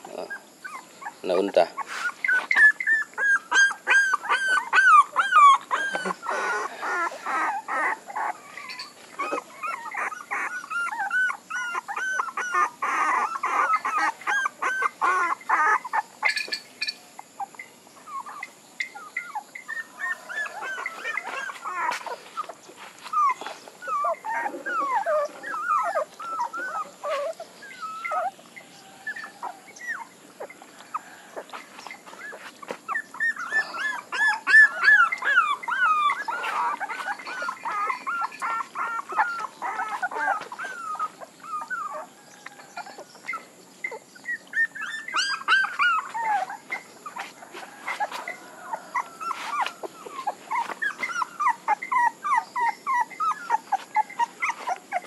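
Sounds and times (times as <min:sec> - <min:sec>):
puppies whimpering and squealing: 0:00.0 - 0:55.0.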